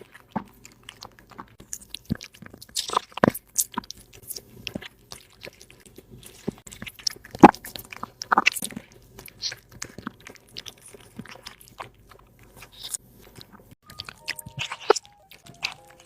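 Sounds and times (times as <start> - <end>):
cat crunching food: 0.0 - 16.0.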